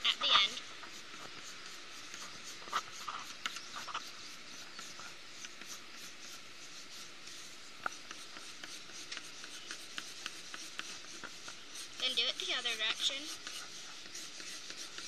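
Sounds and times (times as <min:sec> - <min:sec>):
pencil scratching on paper: 0:00.1 - 0:15.0.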